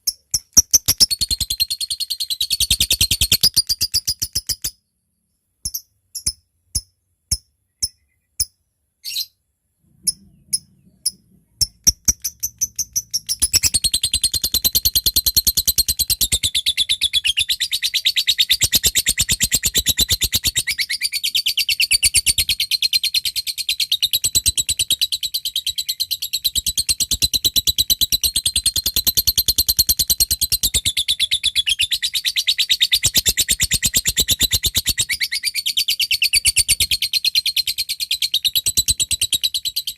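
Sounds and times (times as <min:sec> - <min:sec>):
lovebird chattering trill: 0:00.0 - 0:04.8, 0:10.1 - 0:39.5
lovebird chirps: 0:00.0 - 0:09.4, 0:10.0 - 0:39.9.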